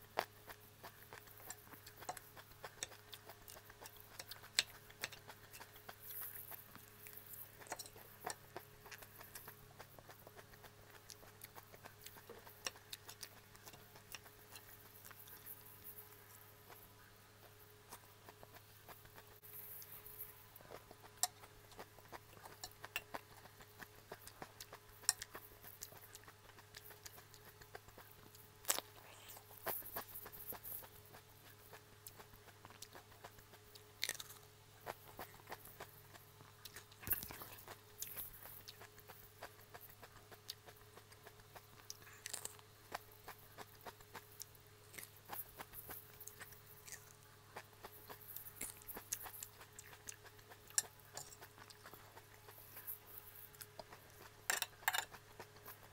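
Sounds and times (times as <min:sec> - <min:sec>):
faint steady hum: 0:00.0 - 0:55.9
person chewing crunchy lettuce: 0:00.0 - 0:55.9.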